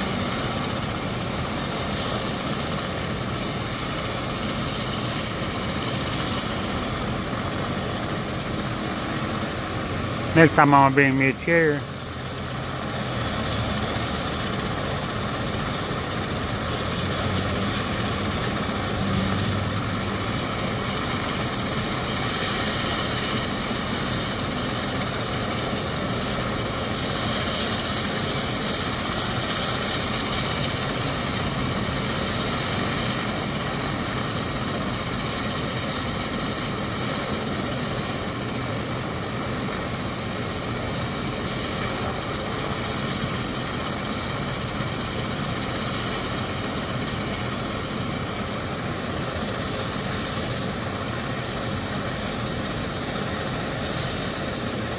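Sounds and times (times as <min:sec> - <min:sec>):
helicopter engine running: 0:00.0 - 0:54.9.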